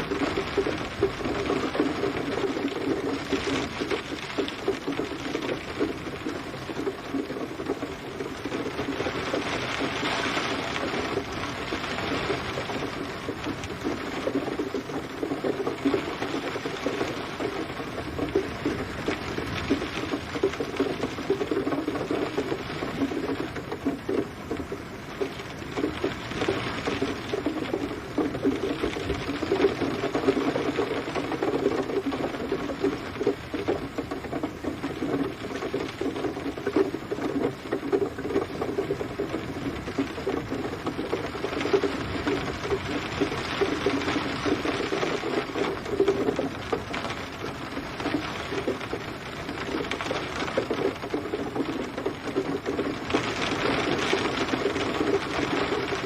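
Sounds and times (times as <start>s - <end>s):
rain on hard surface: 0.0s - 56.0s.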